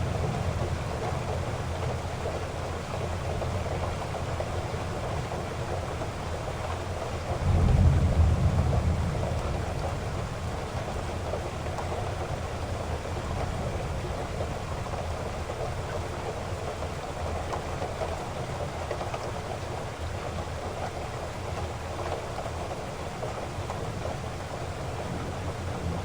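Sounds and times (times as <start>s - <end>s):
low rumble of thunder: 0.0s - 20.9s, 22.4s - 26.0s
heavy rain falling: 0.0s - 26.0s.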